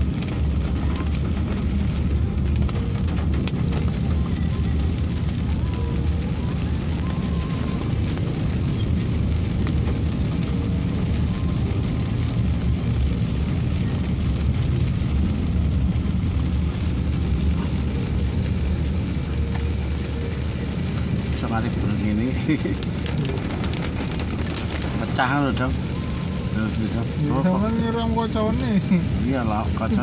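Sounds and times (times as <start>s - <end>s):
car engine and tyres on wet road: 0.0s - 30.0s
rain hitting car: 0.0s - 30.0s.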